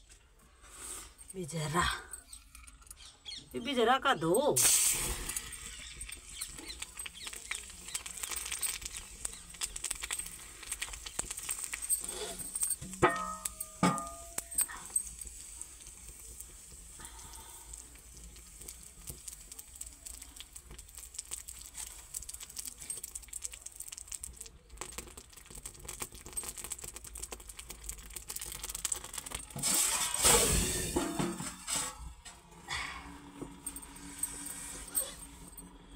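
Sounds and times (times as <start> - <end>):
fire crackling: 0.0 - 35.9
ladle sizzling over fire: 0.0 - 35.9
flames flaring with rushing sizzle: 4.6 - 35.9.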